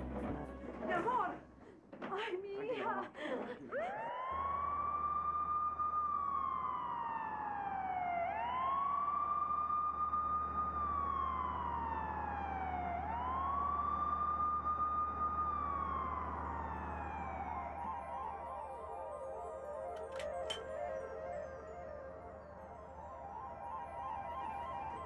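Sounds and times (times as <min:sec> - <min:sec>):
police car siren wailing: 0:03.7 - 0:25.0.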